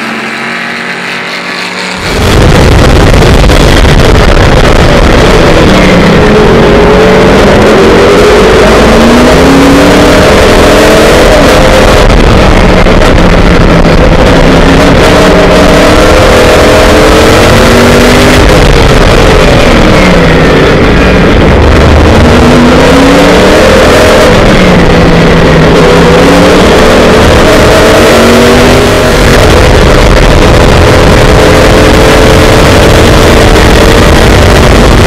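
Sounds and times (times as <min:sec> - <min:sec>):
racing car engine revving: 0:00.0 - 0:35.0
wind and road noise: 0:00.0 - 0:35.0.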